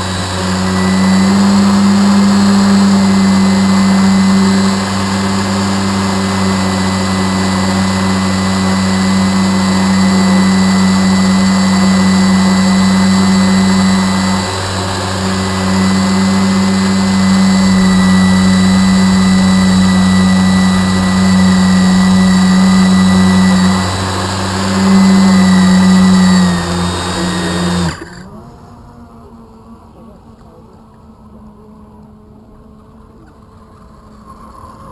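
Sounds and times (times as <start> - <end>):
faint buzz: 0.0 - 34.9
motor droning with high whine: 0.0 - 34.9.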